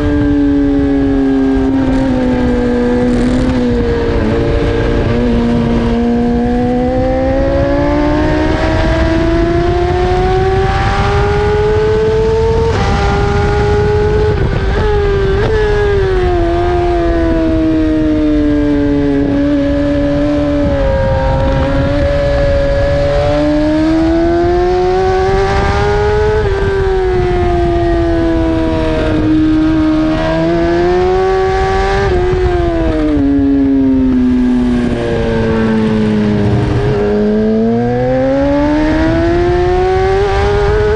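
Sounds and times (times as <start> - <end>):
motorcycle engine at high revs: 0.0 - 40.9
wind rush: 0.0 - 40.9.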